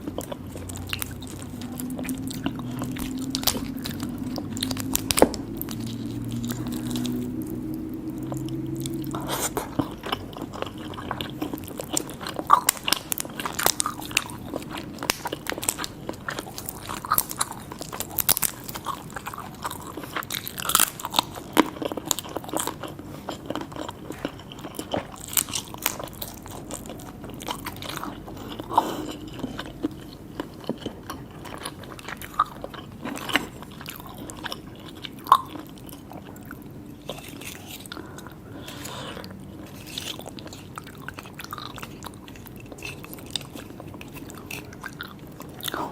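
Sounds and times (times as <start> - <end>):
biting and crunching seafood: 0.0 - 45.9.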